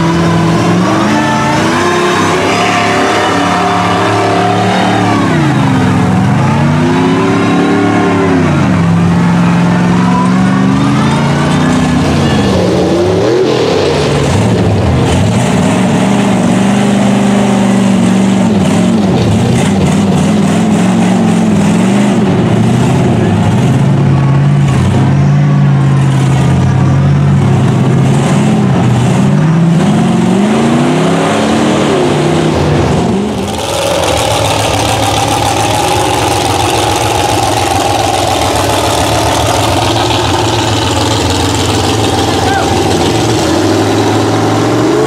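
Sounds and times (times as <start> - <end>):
truck engine revving: 0.0 - 45.0.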